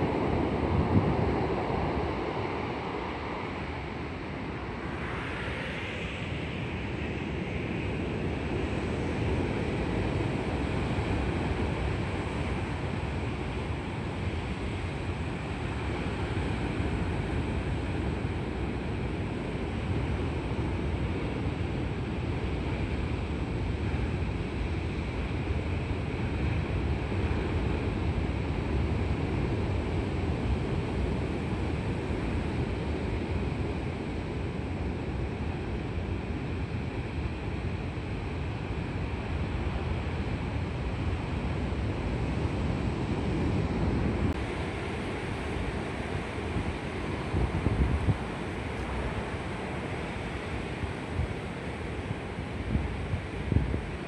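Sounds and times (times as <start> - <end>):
large waves crashing: 0.0 - 54.0.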